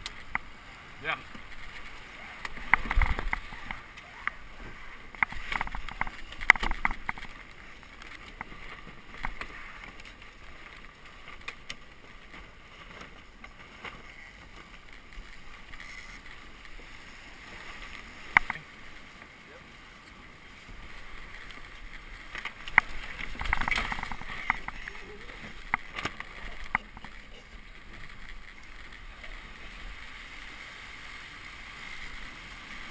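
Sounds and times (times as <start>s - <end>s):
water rushing along hull: 0.0s - 32.9s.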